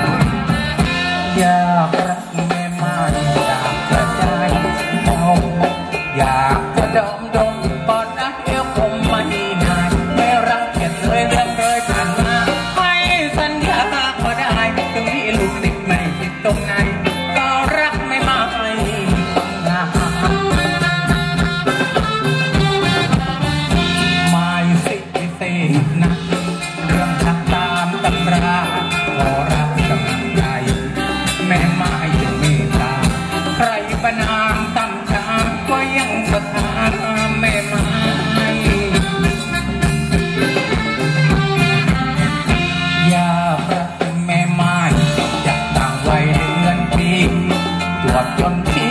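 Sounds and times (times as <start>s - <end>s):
live band playing dance music: 0.0s - 48.9s.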